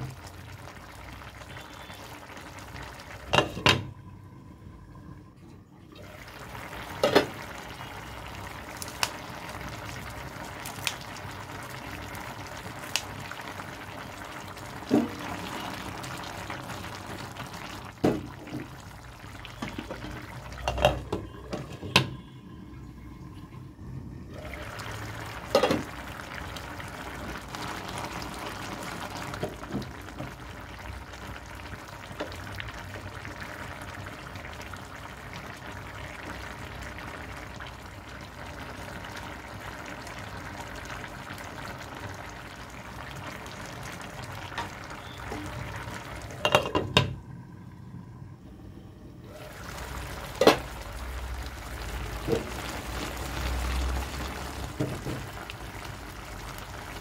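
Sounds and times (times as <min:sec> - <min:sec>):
curry bubbling in a pan: 0:00.0 - 0:03.9, 0:06.0 - 0:22.3, 0:24.3 - 0:47.8, 0:49.3 - 0:57.0.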